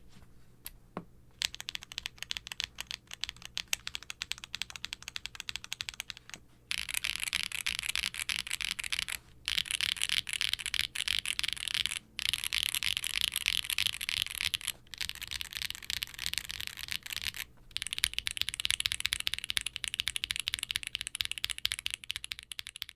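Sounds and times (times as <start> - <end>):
fast typing on mechanical keyboard: 1.4 - 22.9.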